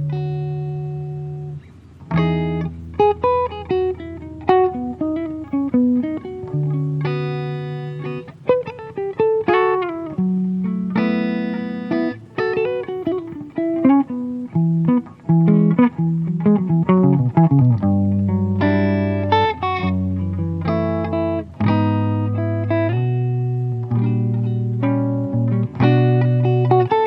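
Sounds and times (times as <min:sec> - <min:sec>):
acoustic guitar playing: 0:00.0 - 0:27.0.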